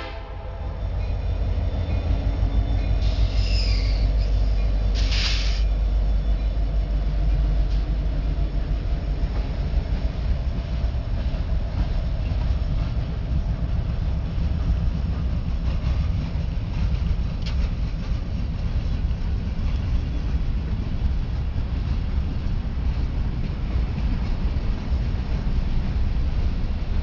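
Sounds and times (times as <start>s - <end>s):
freight train low rumble: 0.0s - 27.0s.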